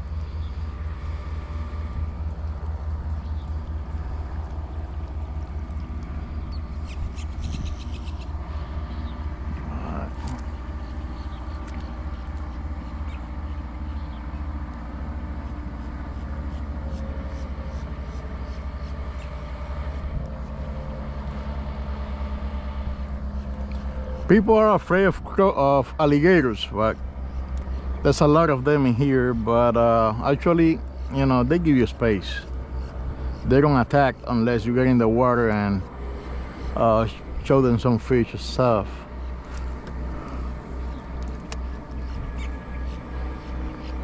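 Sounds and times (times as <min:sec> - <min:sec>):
faint hum: 0:00.0 - 0:44.0
low pulsing motor drone: 0:00.0 - 0:44.0.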